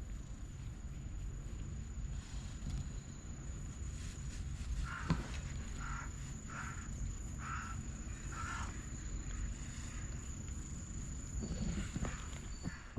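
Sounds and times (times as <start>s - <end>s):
insect soft chirp: 0.0s - 12.9s
insect high trill: 1.8s - 12.9s.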